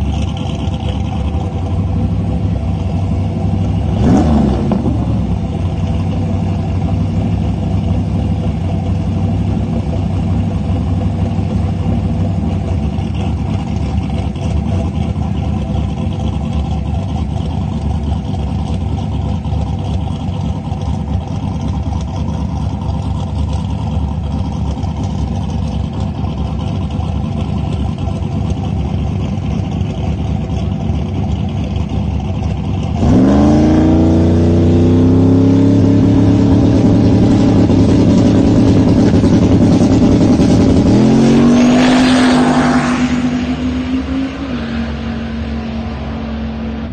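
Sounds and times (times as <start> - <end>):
drag car engine revving: 0.0 - 46.9.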